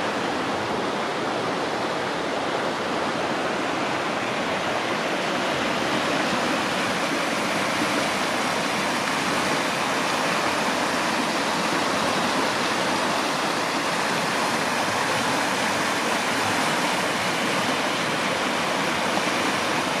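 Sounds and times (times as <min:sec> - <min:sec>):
flowing water rushing: 0:00.0 - 0:20.0.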